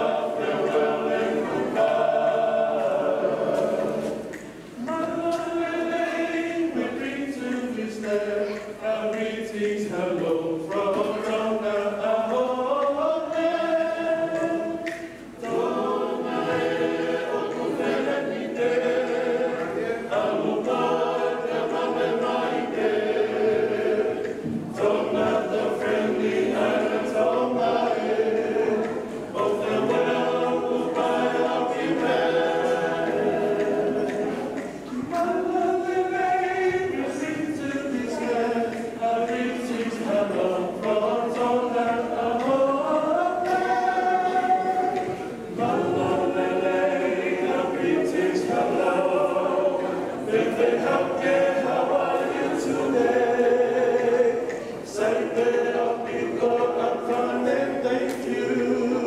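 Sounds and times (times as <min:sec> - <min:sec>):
choir singing unaccompanied: 0:00.0 - 0:59.0.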